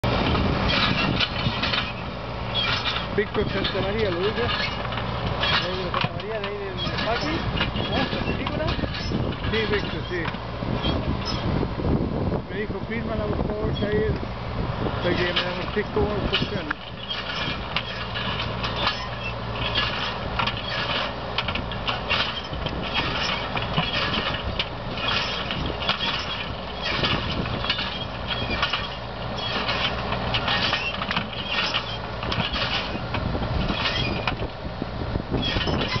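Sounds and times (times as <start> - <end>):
tractor engine running: 0.0 - 36.0
stones rattling on metal: 0.1 - 11.4, 15.1 - 34.5, 35.4 - 36.0.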